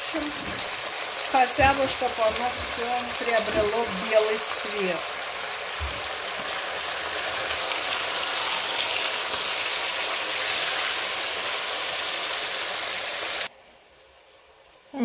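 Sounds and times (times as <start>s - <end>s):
meat sizzling in hot oil: 0.0s - 13.5s.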